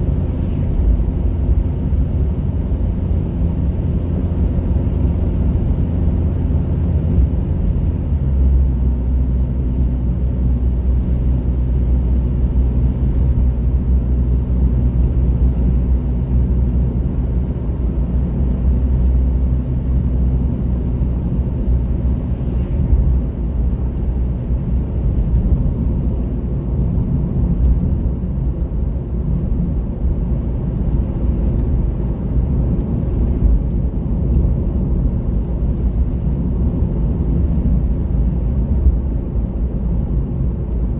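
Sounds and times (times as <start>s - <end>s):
car engine and tyre drone: 0.0s - 40.9s.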